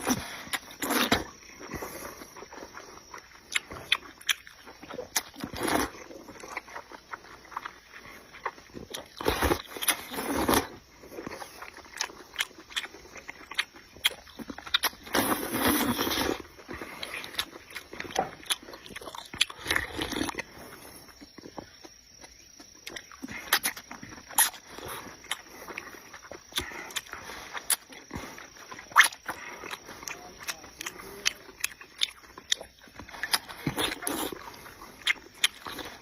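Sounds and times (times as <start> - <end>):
wet chewing and smacking: 0.0 - 36.0.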